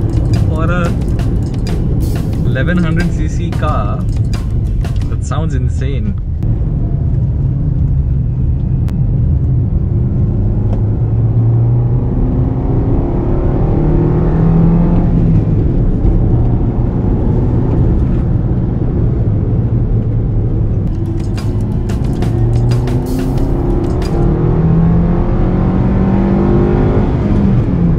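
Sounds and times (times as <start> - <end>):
car engine accelerating: 0.0 - 5.3, 6.1 - 27.9.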